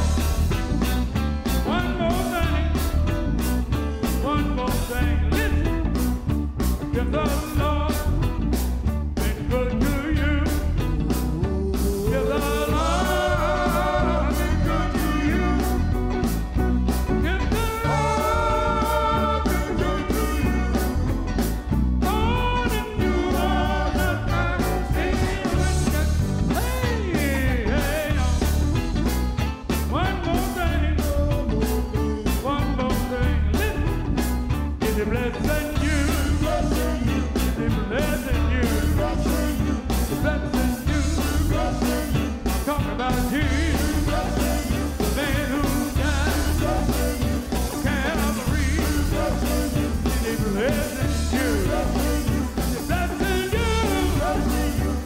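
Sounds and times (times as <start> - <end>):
electric guitar: 0.0 - 55.0
steady beat: 0.0 - 55.0
male vocal group singing gospel: 1.5 - 3.1, 4.0 - 5.9, 6.9 - 8.3, 9.2 - 29.0, 29.8 - 34.0, 34.8 - 55.0.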